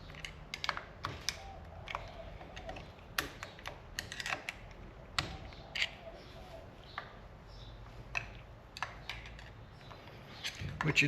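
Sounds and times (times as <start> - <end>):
small metal parts clicking: 0.0 - 6.0, 8.1 - 11.0.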